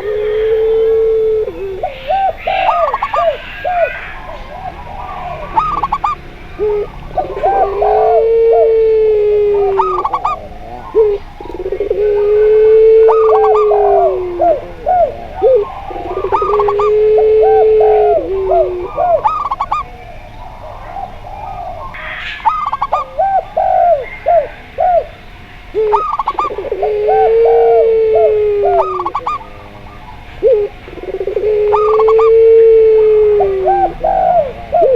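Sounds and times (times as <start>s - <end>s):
doves cooing low: 0.0s - 34.9s
rising and falling bird notes: 0.0s - 34.9s.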